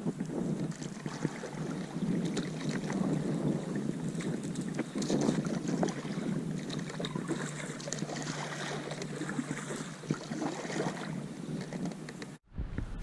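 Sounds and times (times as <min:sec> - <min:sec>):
water splashing around kayak: 0:00.0 - 0:12.4
wind noise on microphone: 0:00.0 - 0:13.0.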